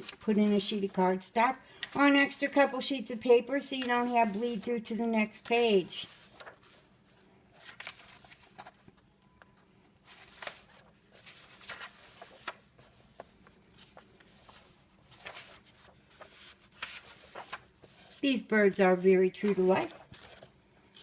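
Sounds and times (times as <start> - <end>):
paper rustling: 1.8 - 9.0, 10.0 - 21.0.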